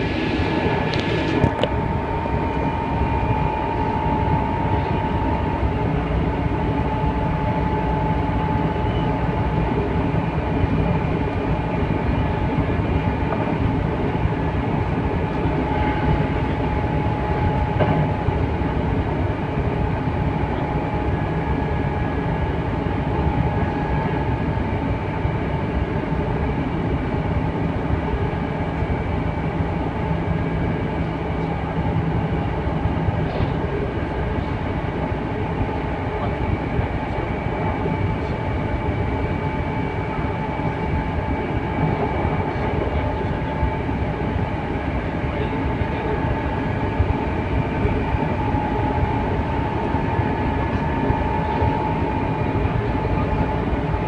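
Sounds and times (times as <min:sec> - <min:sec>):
constant high whine: 0:00.0 - 0:54.0
wheels rumbling on rail: 0:00.0 - 0:54.0.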